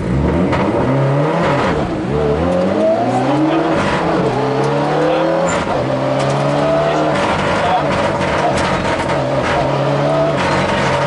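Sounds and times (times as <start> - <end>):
car engine revving through gears: 0.0 - 11.0.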